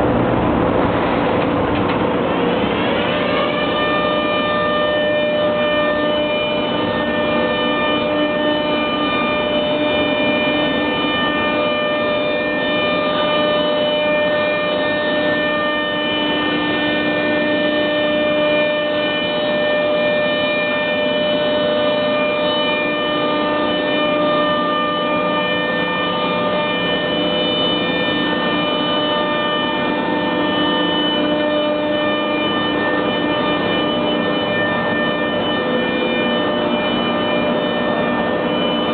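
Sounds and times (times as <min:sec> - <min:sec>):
machinery hum and whine: 0:00.0 - 0:38.9.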